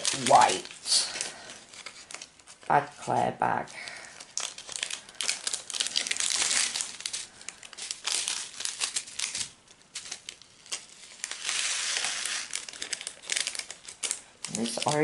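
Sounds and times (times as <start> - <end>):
plastic bags crinkling: 0.0 - 3.0, 3.7 - 15.0.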